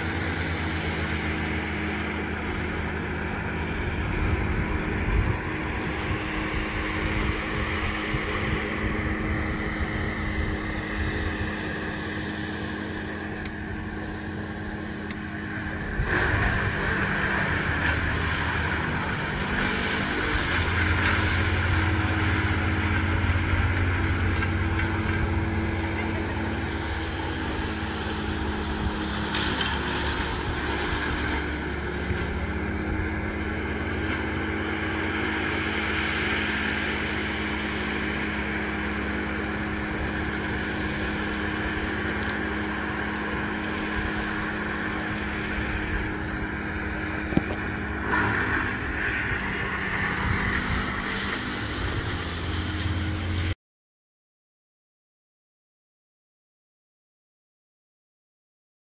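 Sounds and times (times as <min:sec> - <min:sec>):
engine drone: 0:00.0 - 0:53.6.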